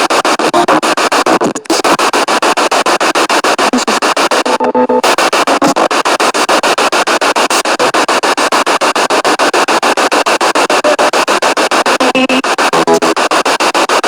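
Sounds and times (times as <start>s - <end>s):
radio static pulsing: 0.0s - 14.0s.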